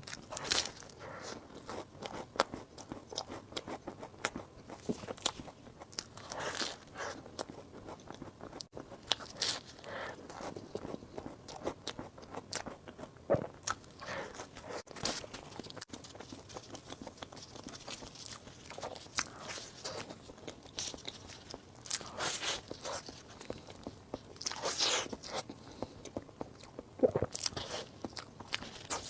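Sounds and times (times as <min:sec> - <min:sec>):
chewing soft food: 0:00.0 - 0:29.0.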